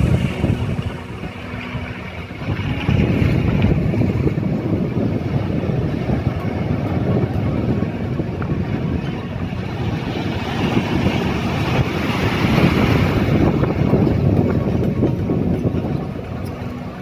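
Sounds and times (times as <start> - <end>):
ocean surf: 0.0 - 17.0
wind rumbling on microphone: 0.0 - 17.0.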